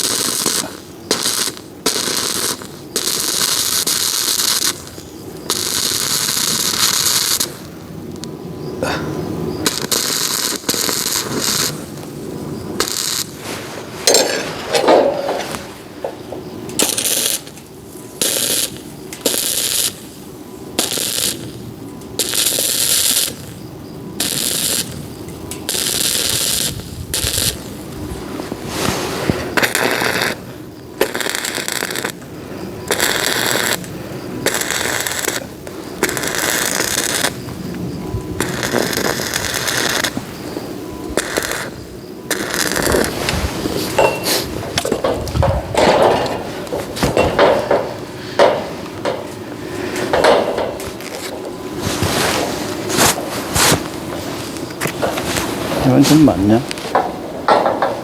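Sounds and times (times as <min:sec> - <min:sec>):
arc welding crackling and sizzling: 0:00.0 - 0:58.0.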